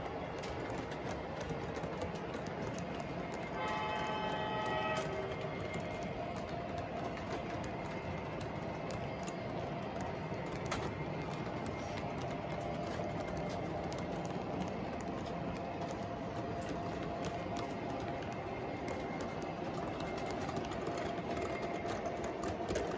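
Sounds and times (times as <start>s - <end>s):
clicks over rail joints: 0.0s - 22.9s
model train wheels rumbling on rail: 0.0s - 22.9s.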